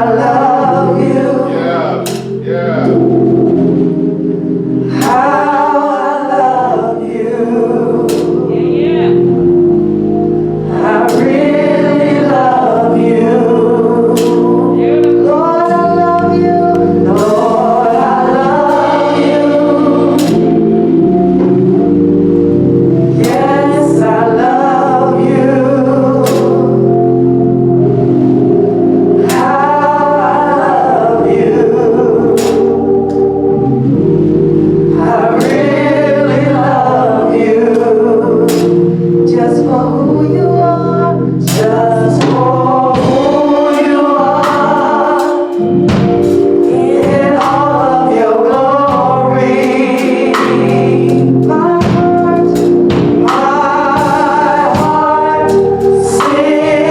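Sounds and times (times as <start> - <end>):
gospel choir singing: 0.0 - 56.9
organ chords: 0.0 - 56.9
sharp percussion hits: 1.0 - 4.0, 4.8 - 6.1, 8.0 - 27.1, 28.1 - 39.0, 41.4 - 56.9.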